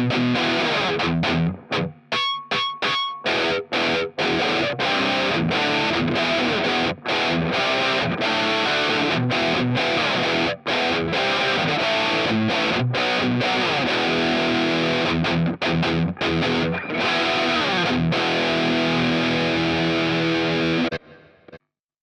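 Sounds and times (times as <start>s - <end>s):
distorted electric guitar lead: 0.0s - 21.6s.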